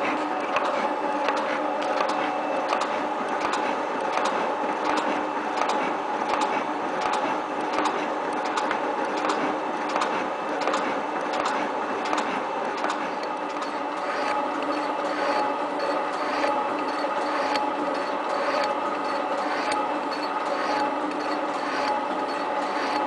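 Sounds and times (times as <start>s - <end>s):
steady mechanical hum: 0.0s - 23.0s
shaping machine ram clicking: 0.5s - 23.0s.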